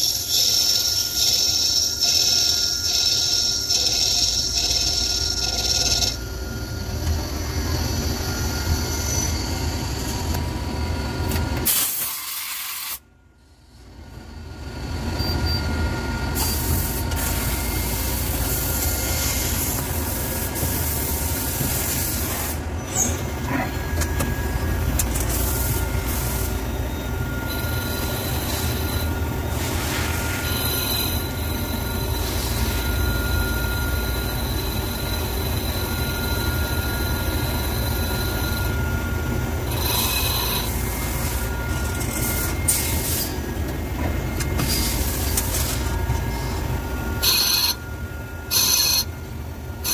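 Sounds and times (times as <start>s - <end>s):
lathe machine drone: 0.0s - 12.0s, 13.5s - 49.9s.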